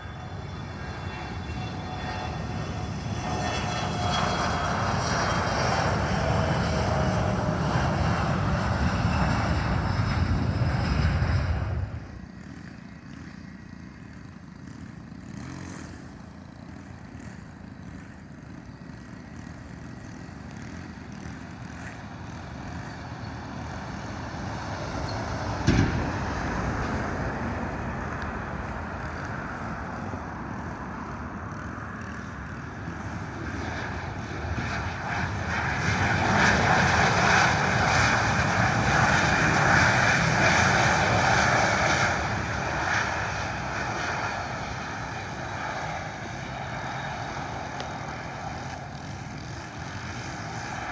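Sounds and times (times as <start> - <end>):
aircraft engine noise: 0.0 - 50.9.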